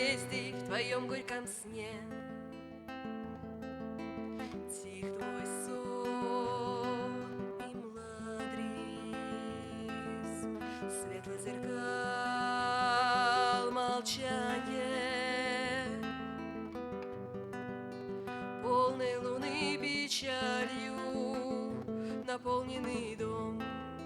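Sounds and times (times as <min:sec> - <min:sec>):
person singing with vibrato: 0:00.0 - 0:02.5, 0:04.3 - 0:16.6, 0:18.6 - 0:24.0
acoustic guitar strumming: 0:00.0 - 0:24.0.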